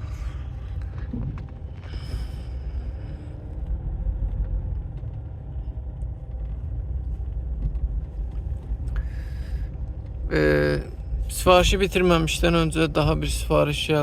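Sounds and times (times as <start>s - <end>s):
car cabin road rumble: 0.0s - 14.0s.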